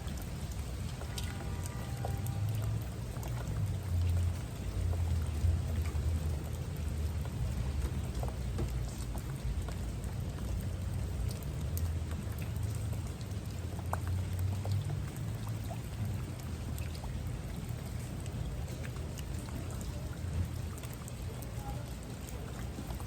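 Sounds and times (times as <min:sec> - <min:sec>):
continuous low rumble: 0:00.0 - 0:23.0
raindrops ticking: 0:00.0 - 0:23.0.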